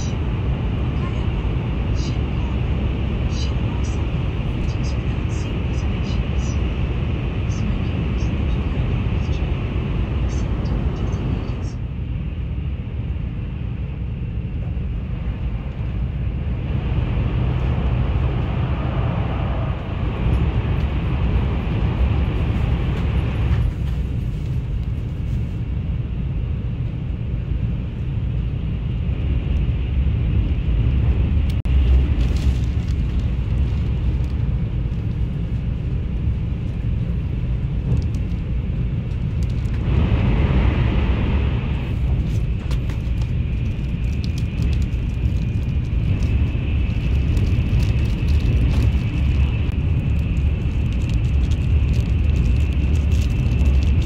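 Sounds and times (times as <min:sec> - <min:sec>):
train running low rumble: 0:00.0 - 0:54.0.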